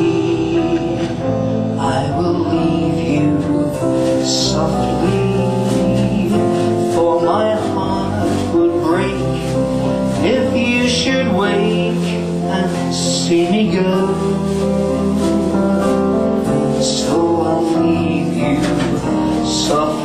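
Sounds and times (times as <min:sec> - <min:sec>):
band playing: 0:00.0 - 0:20.0
man singing a slow ballad: 0:00.0 - 0:20.0
plucked double bass: 0:00.0 - 0:20.0.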